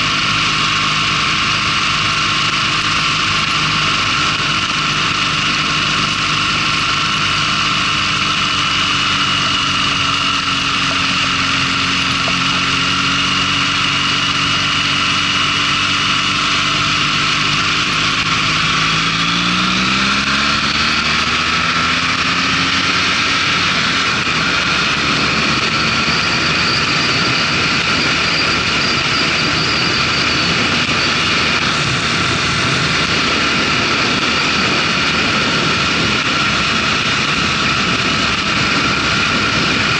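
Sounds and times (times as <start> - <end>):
motorcycle engine accelerating: 0.0 - 39.9
rushing wind noise: 0.0 - 39.9.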